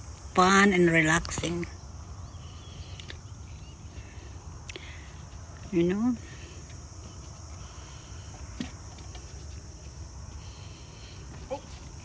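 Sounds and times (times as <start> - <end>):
insects chorusing: 0.0 - 12.0.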